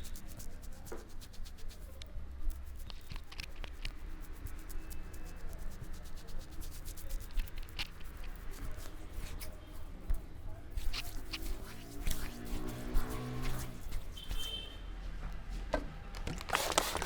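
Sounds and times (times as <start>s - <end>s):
hands rubbing hair and skin: 0.0s - 14.6s, 16.4s - 17.0s.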